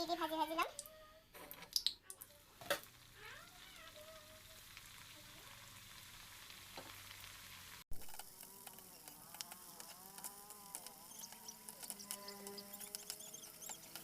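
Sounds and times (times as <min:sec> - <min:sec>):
snacks deep-frying in oil: 0:00.1 - 0:14.0.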